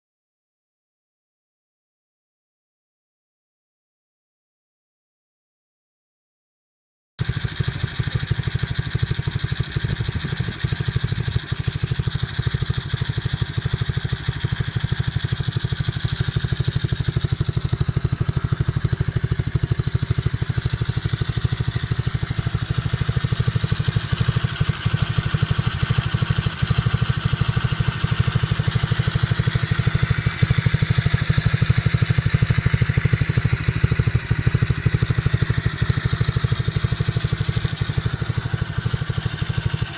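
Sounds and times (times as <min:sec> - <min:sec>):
small motorbike engine running: 0:07.2 - 0:39.9.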